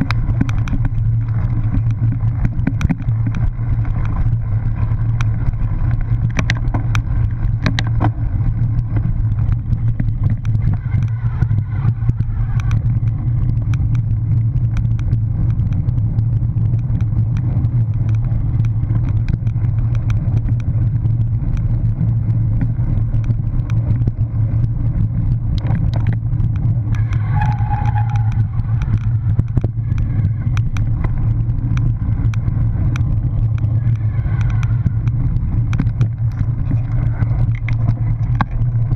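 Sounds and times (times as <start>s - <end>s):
bike rattling over rough trail: 0.0s - 38.9s
wind rumble on microphone: 0.0s - 38.9s.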